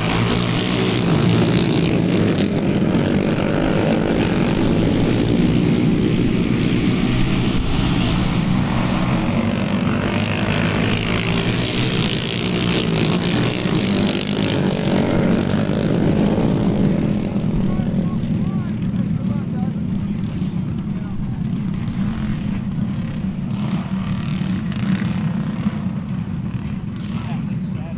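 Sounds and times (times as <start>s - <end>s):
small engines droning: 0.0s - 27.9s.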